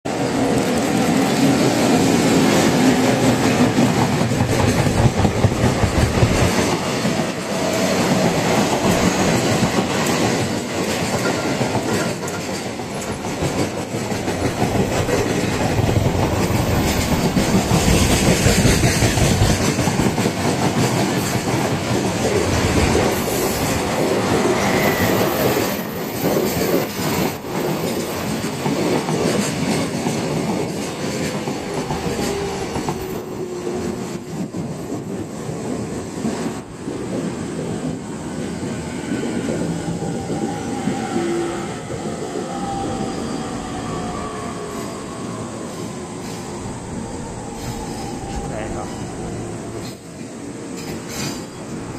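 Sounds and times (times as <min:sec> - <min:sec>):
freight train passing: 0:00.1 - 0:51.9.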